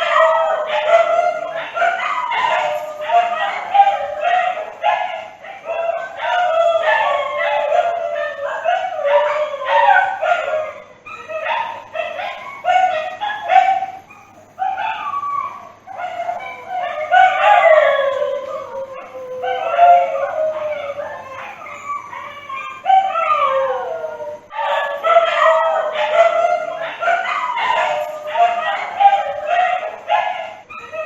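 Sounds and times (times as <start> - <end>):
dog howling: 0.0 - 31.0.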